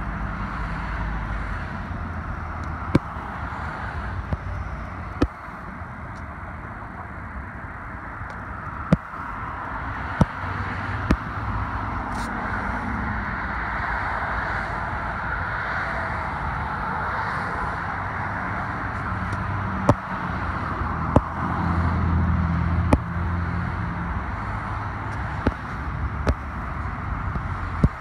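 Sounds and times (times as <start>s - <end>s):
heavy vehicle engine hum: 0.0s - 28.0s
highway traffic noise: 0.0s - 28.0s.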